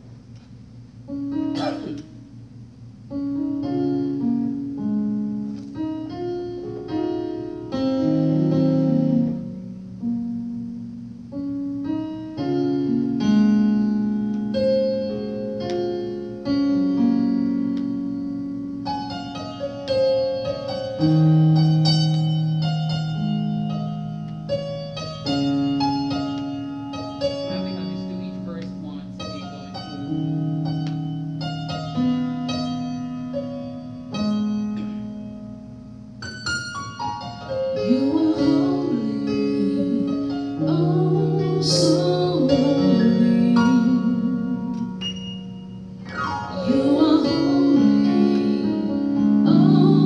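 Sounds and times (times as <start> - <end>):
electric keyboard piano chords: 0.0 - 50.0.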